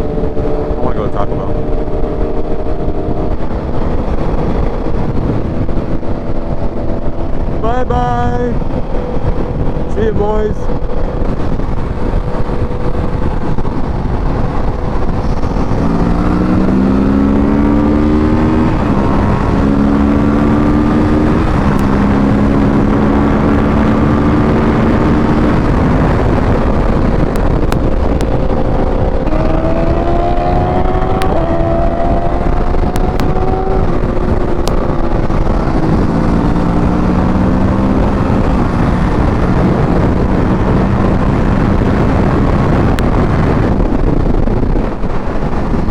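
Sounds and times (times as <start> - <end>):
motorcycle engine accelerating: 0.0 - 45.9
wind noise on microphone: 0.0 - 45.9.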